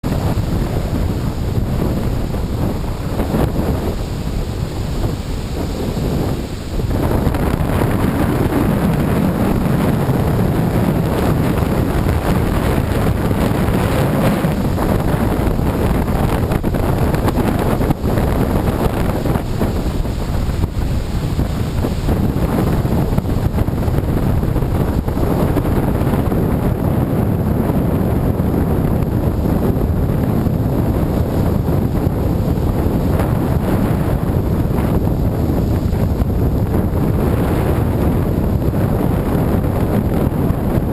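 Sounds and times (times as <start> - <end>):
surf breaking on beach: 0.0 - 40.9
wind buffeting microphone: 0.0 - 40.9.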